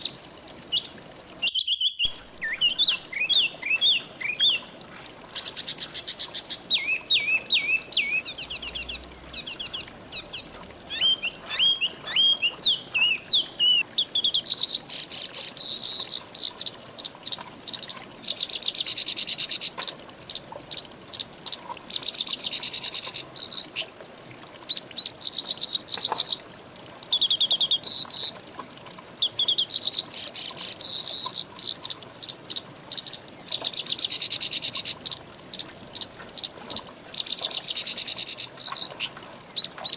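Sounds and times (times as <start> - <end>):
songbirds chirping and trilling: 0.0 - 24.0, 24.7 - 39.9
faint steady high hiss: 0.0 - 39.9.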